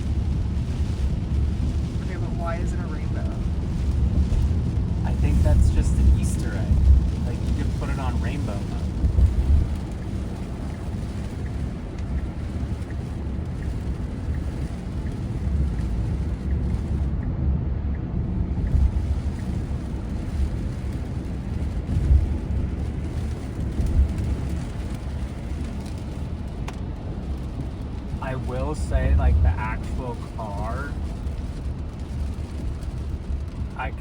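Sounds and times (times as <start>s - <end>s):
pouring rain: 0.0s - 17.1s, 18.2s - 34.0s
tyre and road noise rumble: 0.0s - 34.0s.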